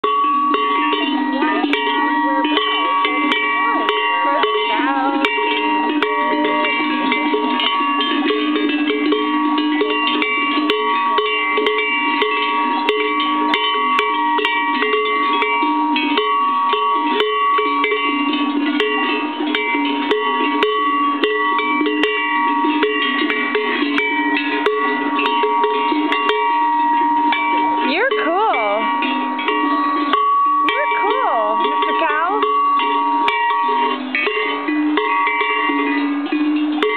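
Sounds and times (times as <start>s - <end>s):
cowbells clanking: 0.0s - 36.9s.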